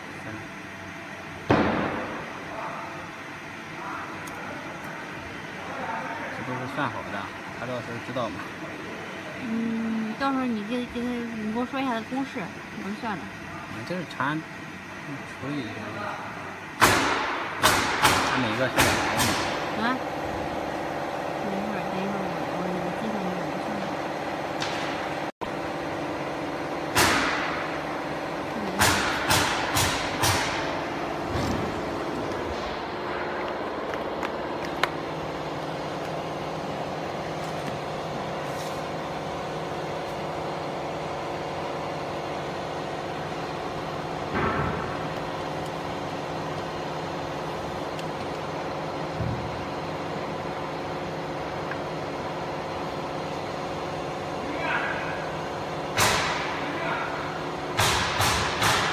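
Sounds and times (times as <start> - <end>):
workshop machinery humming: 0.0 - 58.9.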